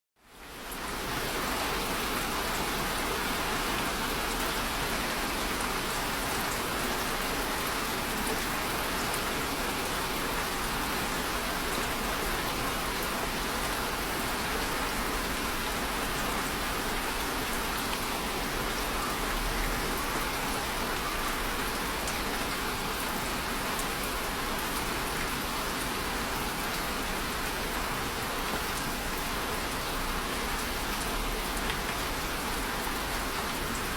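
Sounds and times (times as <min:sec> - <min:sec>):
steady rain falling: 0:00.2 - 0:33.9.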